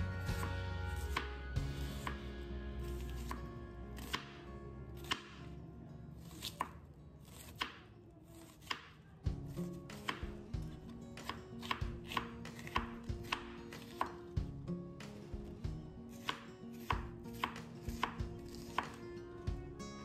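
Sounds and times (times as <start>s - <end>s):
knife chopping on wooden board: 0.2s - 2.3s, 2.9s - 5.5s, 6.2s - 14.5s, 15.1s - 19.0s.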